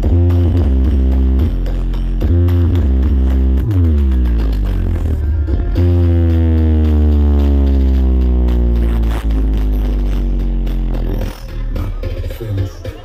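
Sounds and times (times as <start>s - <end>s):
bass-heavy synth note falling: 0.0s - 11.7s
loud dance remix music: 0.0s - 13.0s.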